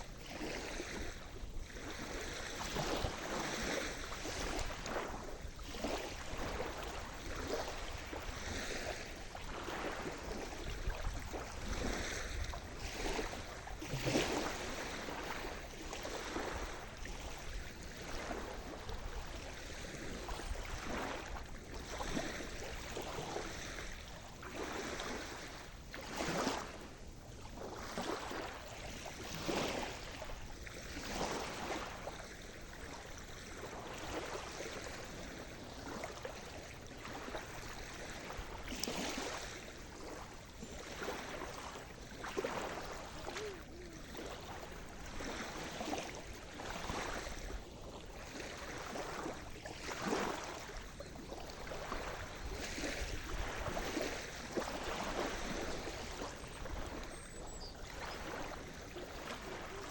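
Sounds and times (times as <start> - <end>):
small waves splashing: 0.0 - 59.9
steady wash of water: 0.0 - 59.9.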